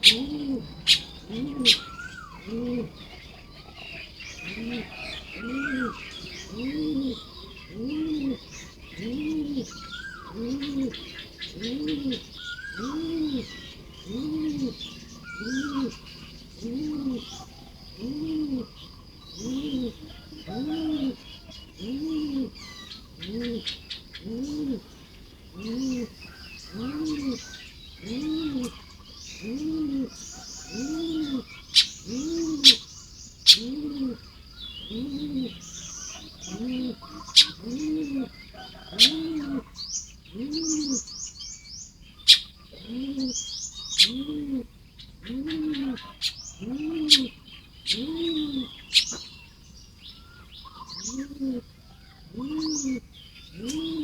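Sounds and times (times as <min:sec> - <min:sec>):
deep dove-like cooing: 0:00.0 - 0:41.4, 0:42.0 - 0:54.0
birds chirping and trilling: 0:00.0 - 0:54.0.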